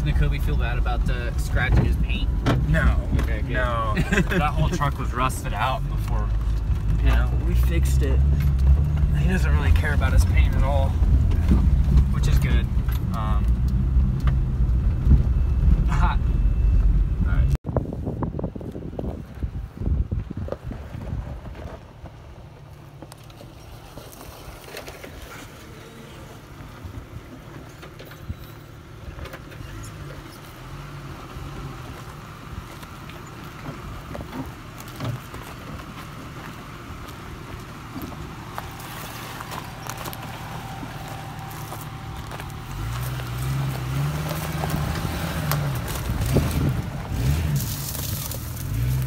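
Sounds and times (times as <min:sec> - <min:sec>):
off-road vehicle engine running: 0:00.0 - 0:49.0.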